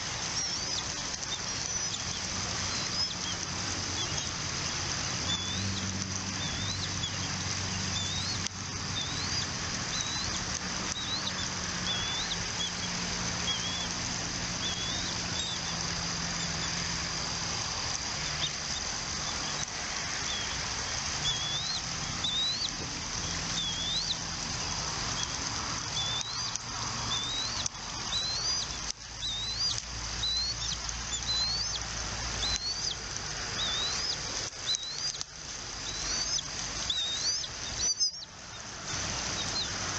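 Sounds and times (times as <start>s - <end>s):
eagles chirping: 0.0s - 16.9s, 17.7s - 33.0s, 33.6s - 39.8s.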